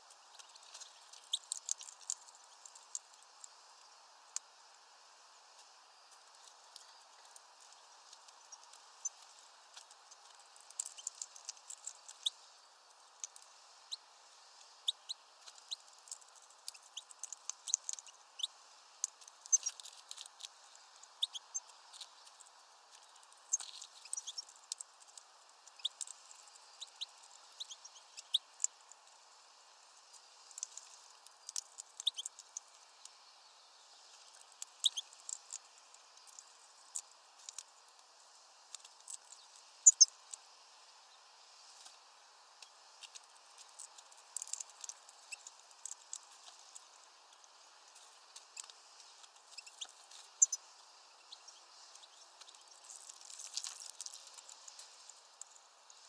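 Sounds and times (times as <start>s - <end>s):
faint steady hiss: 0.0s - 56.0s
small birds chirping: 0.0s - 56.0s.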